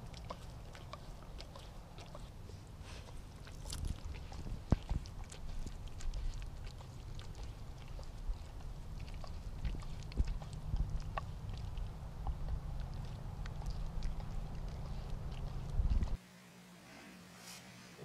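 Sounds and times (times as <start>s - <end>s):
dog licking ice: 0.0s - 16.2s
low rumble: 0.0s - 16.2s.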